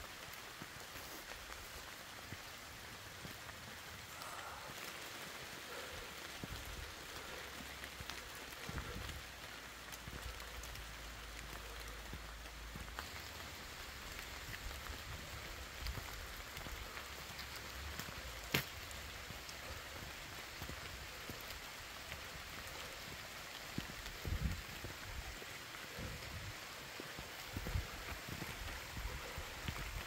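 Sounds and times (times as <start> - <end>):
footfalls on woodland path: 0.0 - 30.0.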